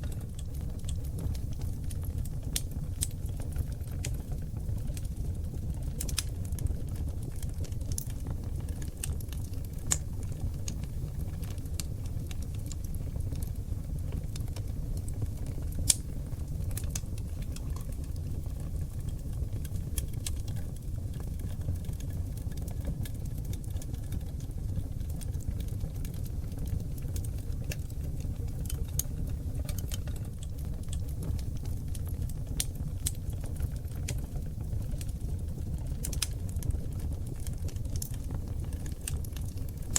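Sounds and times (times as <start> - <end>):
fire crackles and pops: 0.0 - 39.9
rumble of fire flames: 0.0 - 39.9.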